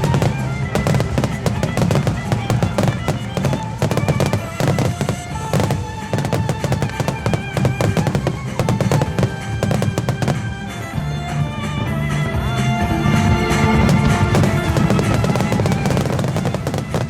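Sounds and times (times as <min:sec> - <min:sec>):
fireworks bursting: 0:00.0 - 0:11.4, 0:13.0 - 0:17.0
music: 0:00.0 - 0:17.0.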